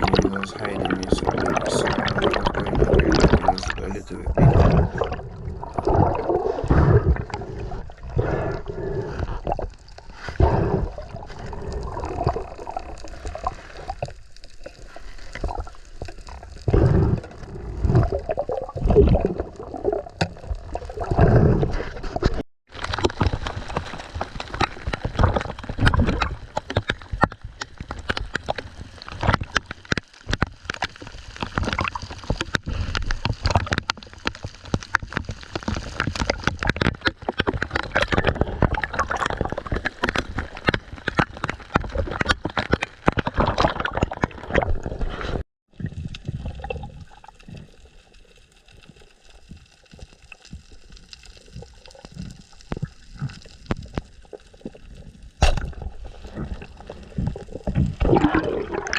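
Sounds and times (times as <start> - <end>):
calm water sound: 0.0 - 58.9
sea water sloshing and gurgling: 0.0 - 58.9
dense crackling and knocking: 11.0 - 45.4, 46.0 - 58.9.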